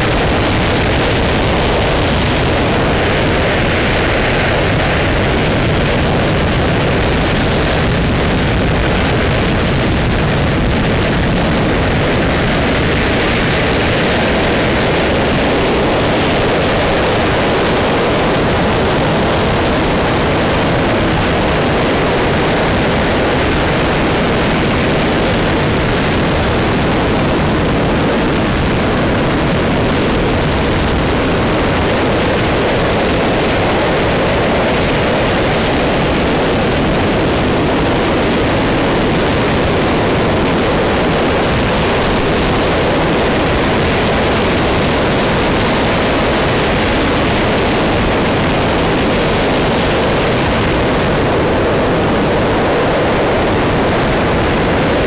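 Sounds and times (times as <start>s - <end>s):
rocket engine roaring exhaust: 0.0s - 55.0s.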